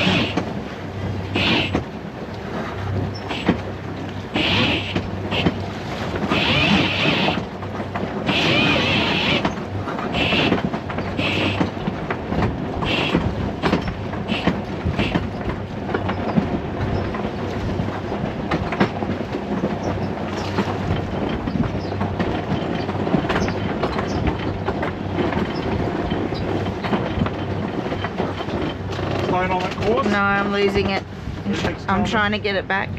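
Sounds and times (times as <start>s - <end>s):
boat engine humming: 0.0s - 32.9s
wind: 0.0s - 32.9s.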